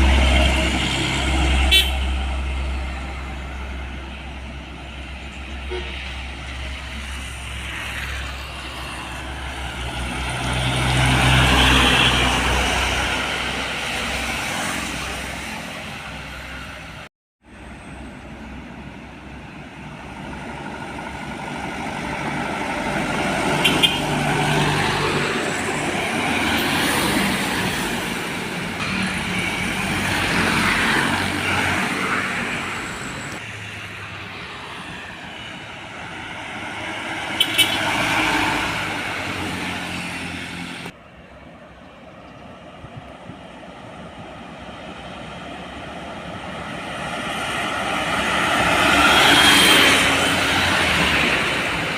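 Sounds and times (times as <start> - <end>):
trucks and buses passing: 0.0 - 51.9.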